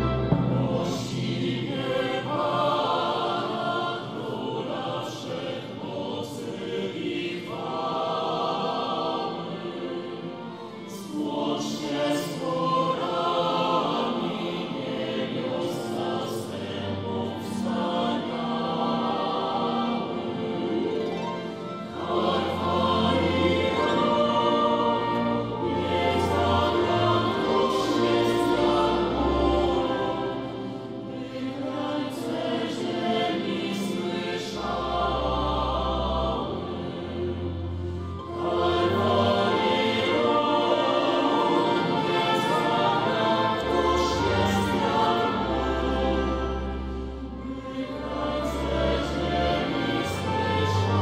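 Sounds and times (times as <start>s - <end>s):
choir singing: 0.0s - 51.0s
orchestra strings: 0.0s - 51.0s.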